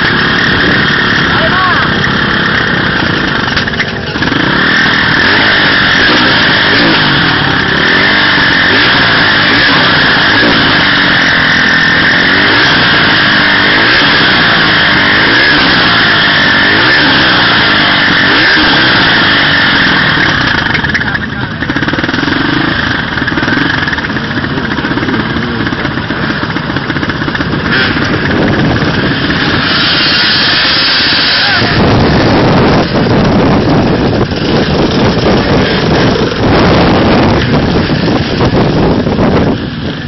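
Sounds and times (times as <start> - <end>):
dirt bike and quad engines revving: 0.0 - 40.0.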